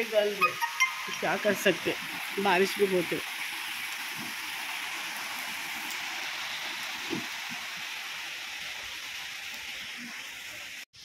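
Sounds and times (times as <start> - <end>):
heavy rain on foliage: 0.0 - 11.0.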